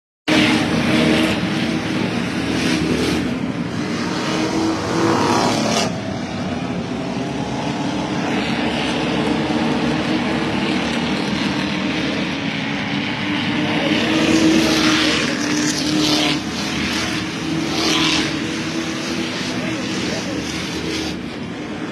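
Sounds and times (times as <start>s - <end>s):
stock cars racing at high revs: 0.3s - 21.9s.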